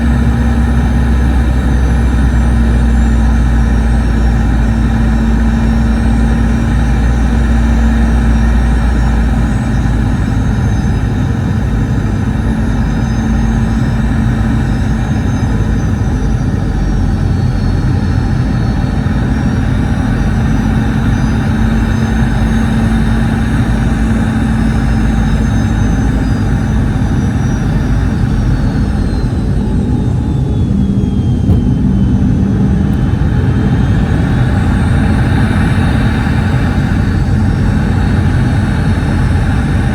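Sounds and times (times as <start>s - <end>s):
aircraft cabin engine roar: 0.0s - 39.9s
turbine whine: 0.0s - 39.9s.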